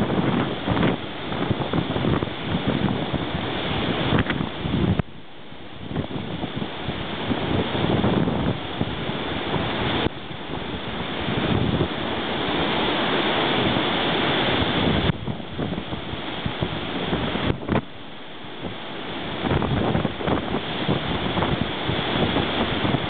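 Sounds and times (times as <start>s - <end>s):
wind buffeting microphone: 0.0s - 5.1s, 5.7s - 23.0s
choppy lake waves: 0.0s - 23.0s.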